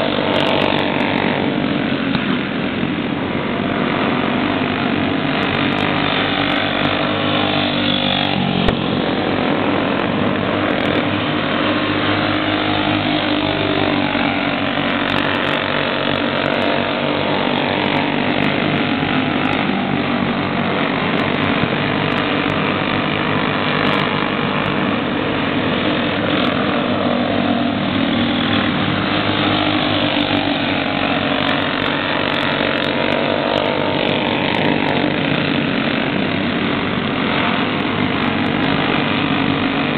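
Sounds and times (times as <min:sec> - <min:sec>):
kart engines droning: 0:00.0 - 0:39.9.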